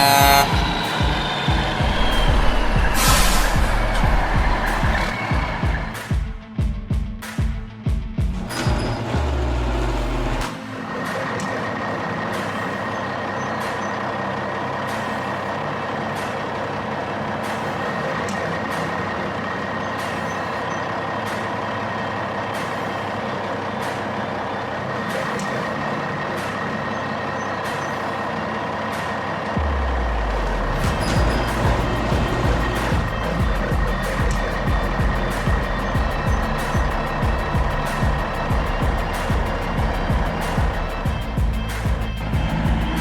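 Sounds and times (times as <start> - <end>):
heavy truck engine running: 0.0 - 5.9, 8.4 - 43.0
bass-heavy music: 0.0 - 28.9, 29.5 - 43.0.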